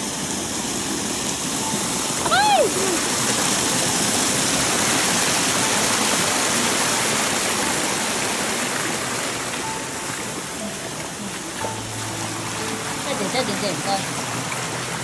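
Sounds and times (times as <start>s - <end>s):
water rushing over pavement: 0.0s - 15.0s.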